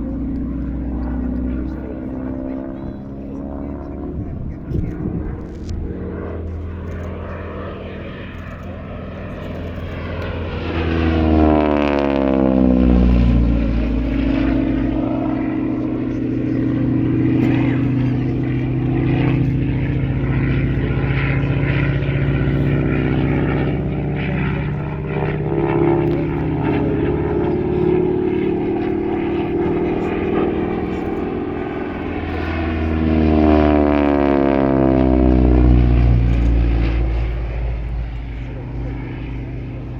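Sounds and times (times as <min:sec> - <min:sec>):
propeller plane engine passing: 0:00.0 - 0:39.9.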